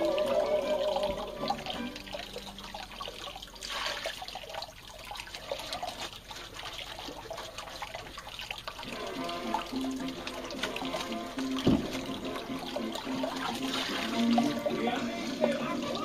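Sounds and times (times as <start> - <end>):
water sloshing and trickling: 0.0 - 16.0.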